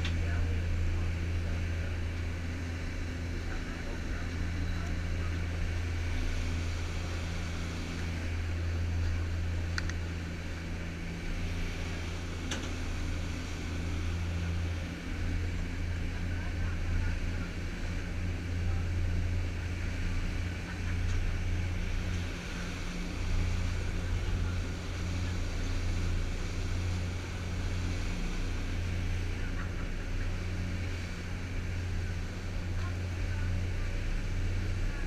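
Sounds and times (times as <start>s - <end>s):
boat engine drone: 0.0s - 35.0s
water rushing from wake: 0.0s - 35.0s.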